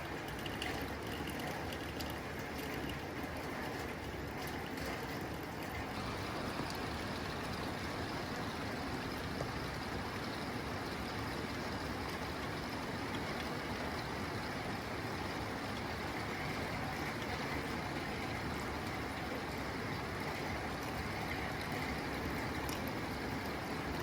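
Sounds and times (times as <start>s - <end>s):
rain on a tin roof: 0.0s - 24.0s.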